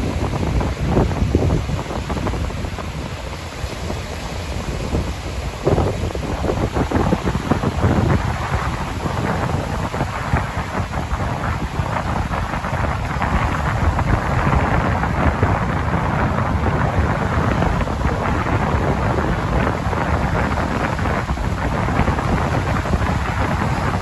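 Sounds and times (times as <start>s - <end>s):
surf on beach: 0.0s - 24.0s
wind buffeting microphone: 0.0s - 24.0s.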